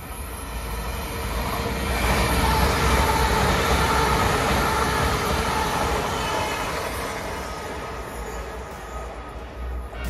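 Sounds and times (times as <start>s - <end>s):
electric train whine: 0.0s - 10.0s
train wheels rumbling on rails: 0.0s - 10.0s.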